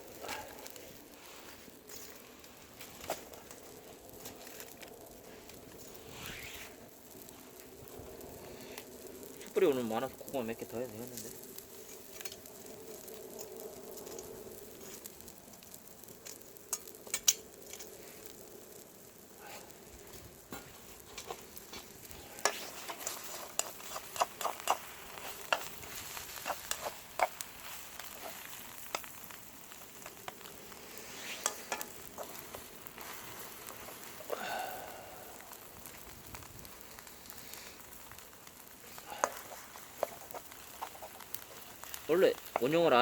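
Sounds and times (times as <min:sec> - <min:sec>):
batter sizzling in frying pan: 0:00.0 - 0:43.0
sharp pops and crackles: 0:00.0 - 0:43.0.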